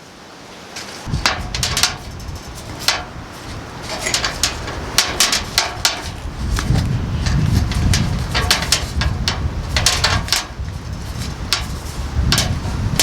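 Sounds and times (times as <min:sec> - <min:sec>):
wind rumbling on microphone: 0:01.0 - 0:13.0.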